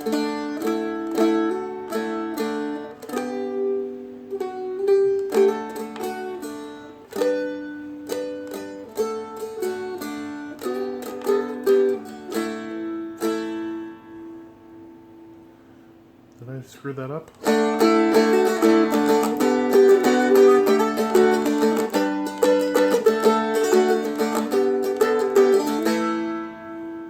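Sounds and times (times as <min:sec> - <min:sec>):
strummed string instrument: 0:00.0 - 0:27.0.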